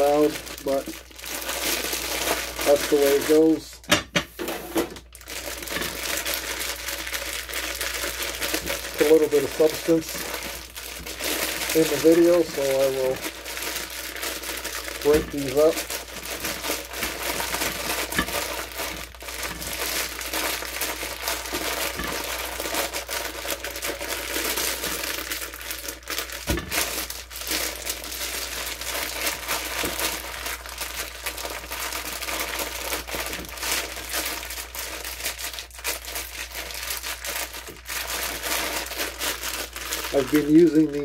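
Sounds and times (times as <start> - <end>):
plastic bag crinkling: 0.0 - 41.0.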